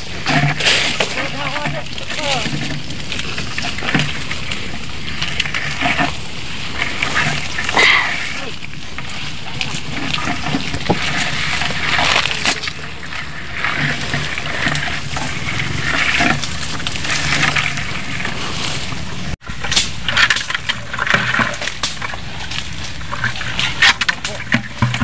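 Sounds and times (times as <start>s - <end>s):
footsteps in wet mud: 0.0s - 25.0s
leaves and branches rustling: 0.0s - 25.0s.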